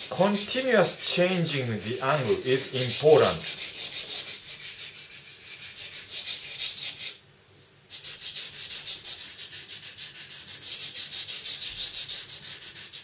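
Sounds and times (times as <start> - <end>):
knife stroking on wet whetstone: 0.0 - 7.2, 7.9 - 13.0.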